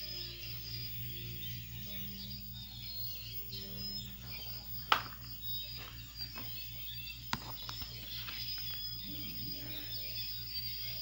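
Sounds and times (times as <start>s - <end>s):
faint high chirping tones: 0.0s - 11.0s
low electrical hum: 0.0s - 11.0s.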